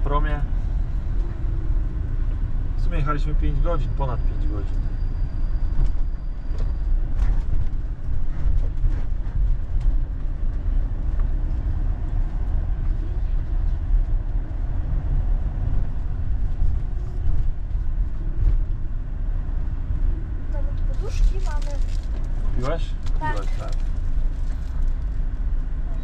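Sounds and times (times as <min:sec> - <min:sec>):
motorhome engine: 0:00.0 - 0:26.0
road rumble: 0:00.0 - 0:26.0.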